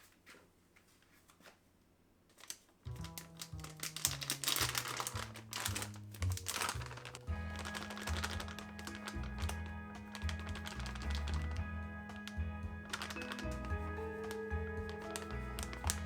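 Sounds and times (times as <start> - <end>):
crinkling and tapping: 2.3 - 16.0
background music with bass notes: 3.0 - 16.0.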